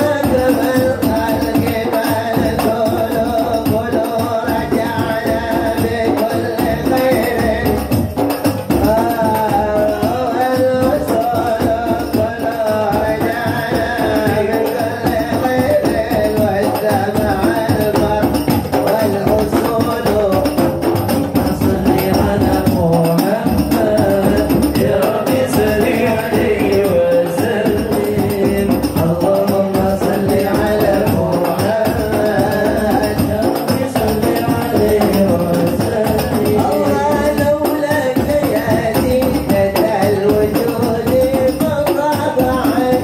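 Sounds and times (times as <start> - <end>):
frame drums beaten: 0.0 - 43.0
male chorus singing: 0.0 - 43.0.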